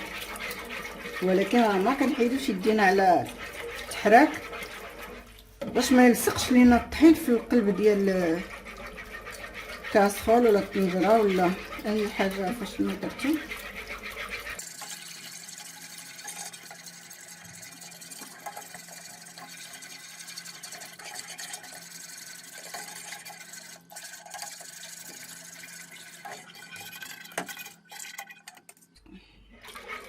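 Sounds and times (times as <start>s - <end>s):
sauce stirred in a saucepan: 0.0s - 28.9s, 29.5s - 30.0s.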